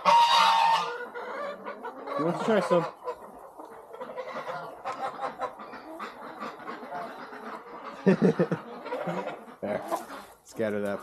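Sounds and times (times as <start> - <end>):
chickens clucking softly: 0.0 - 11.0.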